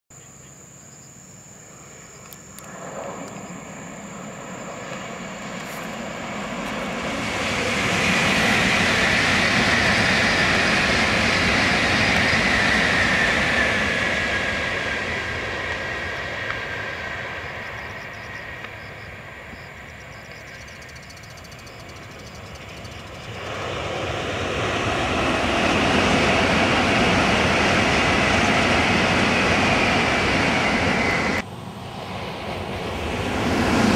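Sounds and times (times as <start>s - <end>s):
high-speed train passing: 1.1s - 33.9s.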